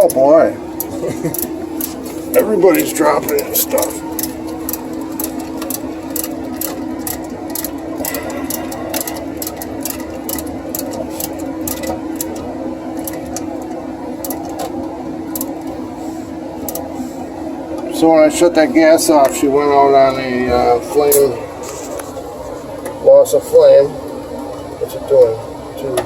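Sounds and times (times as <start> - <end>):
furnace motor hum: 0.0 - 26.0.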